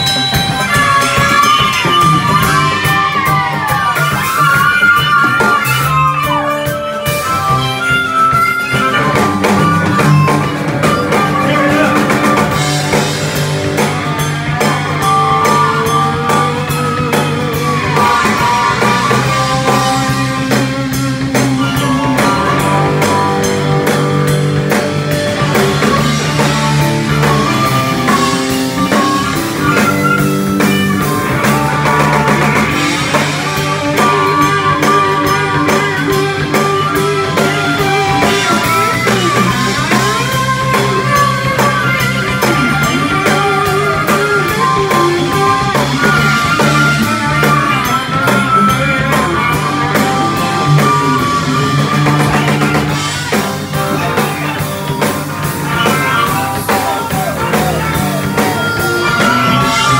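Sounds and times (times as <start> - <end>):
drum kit: 0.0 - 59.9
electric guitar: 0.0 - 59.9
harmonica solo: 0.0 - 59.9.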